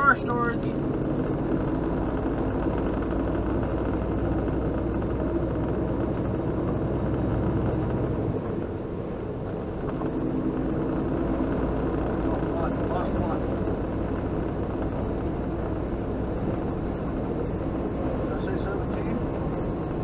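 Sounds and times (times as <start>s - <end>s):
road noise: 0.0s - 20.0s
truck engine running: 0.0s - 20.0s.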